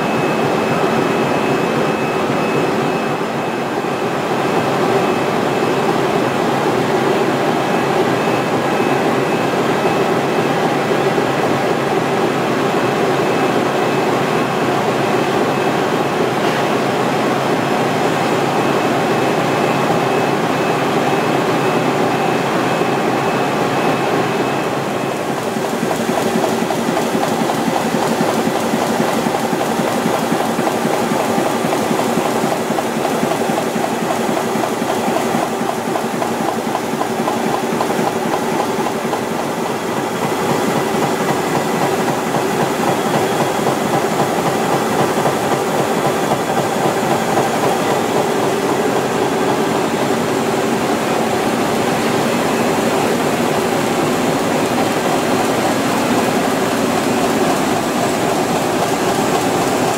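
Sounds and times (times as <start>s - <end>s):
constant machine tones: 0.0s - 59.9s
printing press clattering: 0.0s - 59.9s.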